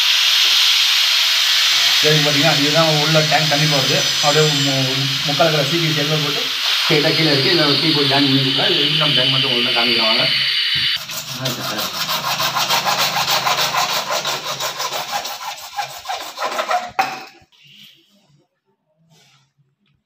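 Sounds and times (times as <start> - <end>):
hacksaw sawing: 0.3 - 10.2, 10.8 - 17.4.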